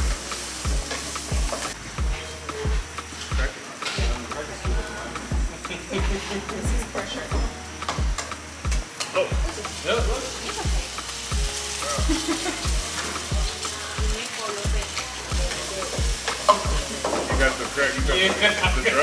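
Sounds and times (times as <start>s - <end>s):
eggs sizzling in frying pans: 0.0s - 19.0s
thumping music beat: 0.0s - 19.0s.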